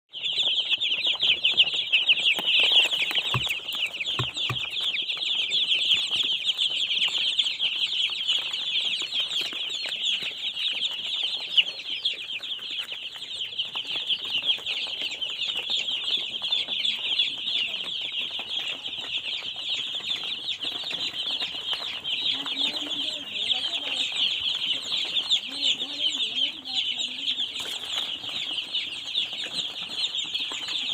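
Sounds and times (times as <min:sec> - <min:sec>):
chicks peeping: 0:00.1 - 0:30.9.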